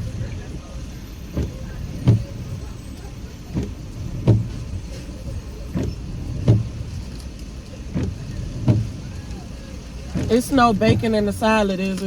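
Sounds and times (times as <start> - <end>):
steady car interior hum: 0.0 - 12.0
windshield wipers thumping: 0.0 - 12.0.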